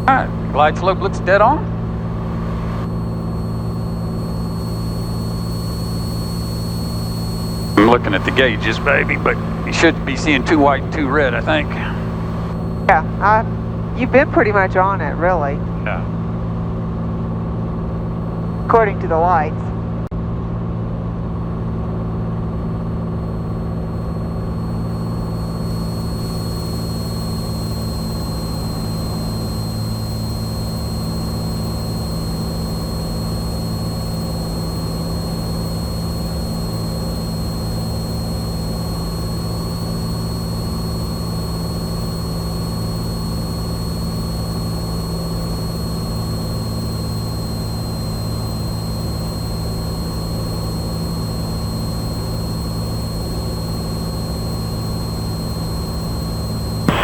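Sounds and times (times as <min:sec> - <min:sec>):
airplane engine and propeller drone: 0:00.0 - 0:57.0
thin high whine: 0:02.3 - 0:16.1, 0:23.2 - 0:57.0.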